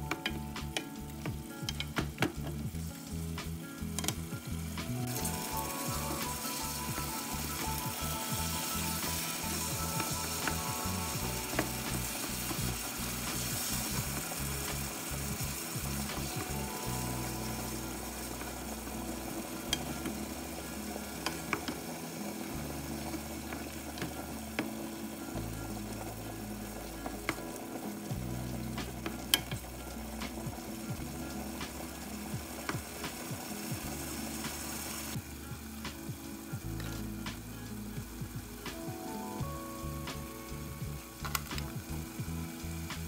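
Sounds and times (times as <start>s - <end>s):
food sizzling in hot oil: 0.0s - 43.0s.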